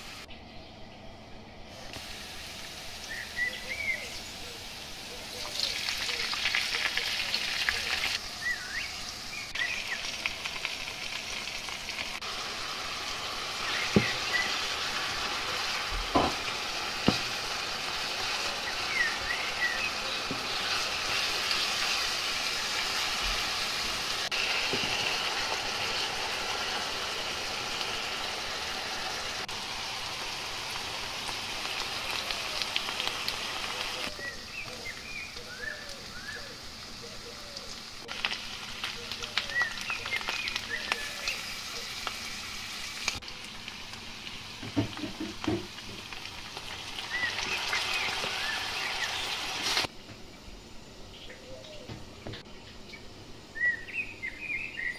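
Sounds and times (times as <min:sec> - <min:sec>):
meat and onions sizzling in a pan: 0:01.9 - 0:49.9.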